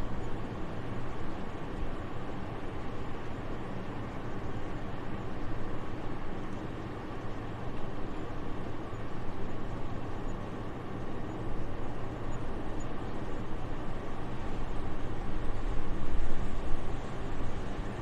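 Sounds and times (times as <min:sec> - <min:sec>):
soft steady wind: 0:00.0 - 0:18.0.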